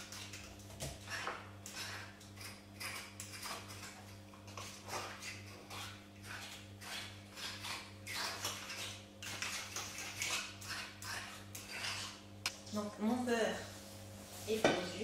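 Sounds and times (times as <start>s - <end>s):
spoon stirring in a bowl: 0.0s - 12.3s.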